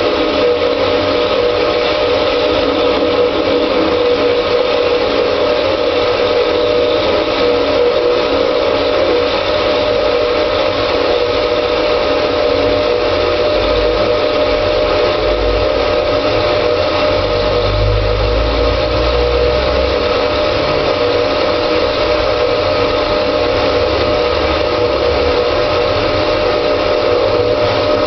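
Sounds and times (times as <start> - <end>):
lathe whine: 0.0 - 28.0.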